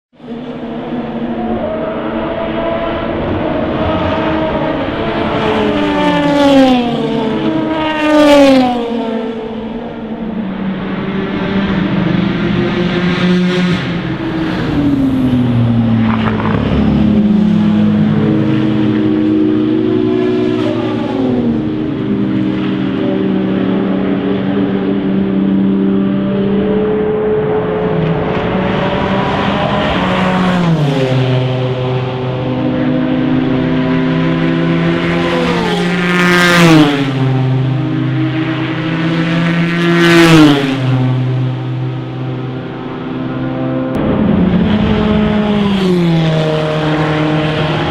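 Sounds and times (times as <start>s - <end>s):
race car engines running hard: 0.1s - 47.9s.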